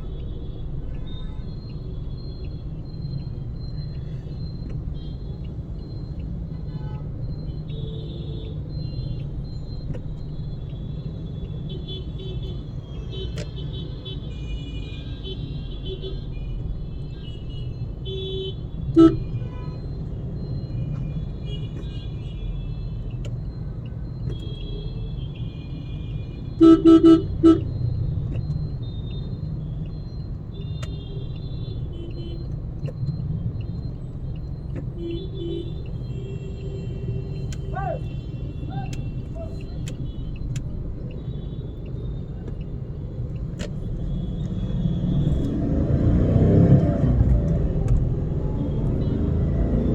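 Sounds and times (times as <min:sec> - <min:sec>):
car horn beeps: 0:00.0 - 0:47.0
car road and engine rumble: 0:00.0 - 0:49.9.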